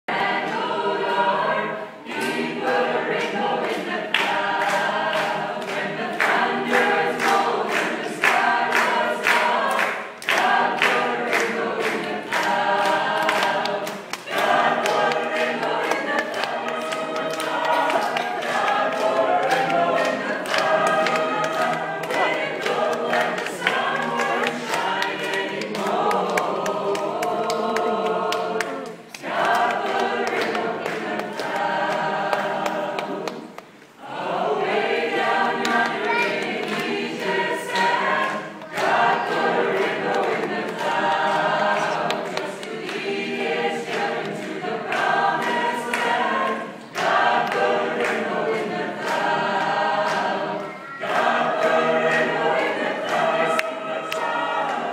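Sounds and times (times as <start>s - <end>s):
mixed choir singing a cappella: 0.0s - 54.9s.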